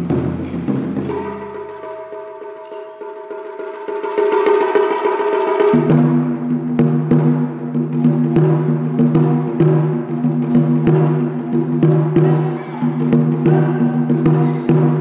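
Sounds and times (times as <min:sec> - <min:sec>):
taiko drum booming: 0:00.0 - 0:02.3, 0:03.9 - 0:15.0.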